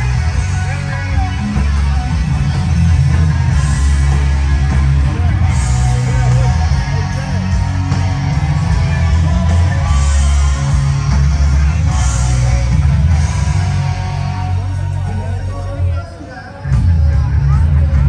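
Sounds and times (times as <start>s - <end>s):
electric guitar: 0.0s - 18.0s
heavy bass and drum beat: 0.0s - 18.0s
rock band playing live: 0.0s - 18.0s.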